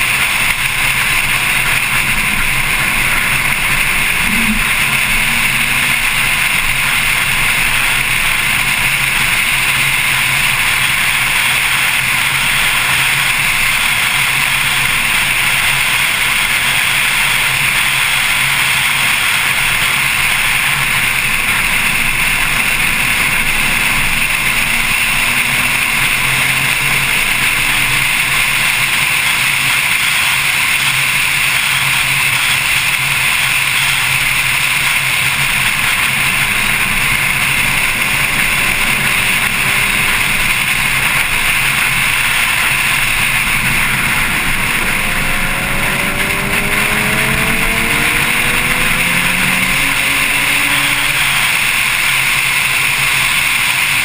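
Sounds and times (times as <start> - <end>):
car engine at speed: 0.0 - 54.0
road noise: 0.0 - 54.0.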